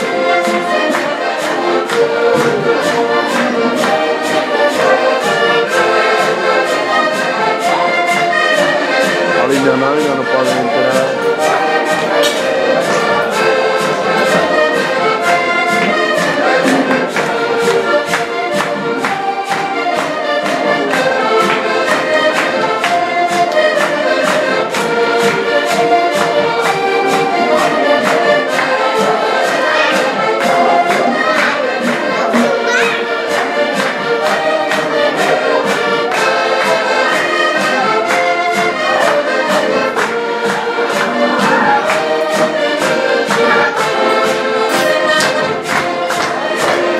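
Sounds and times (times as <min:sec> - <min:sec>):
accordions playing folk tune: 0:00.0 - 0:46.9.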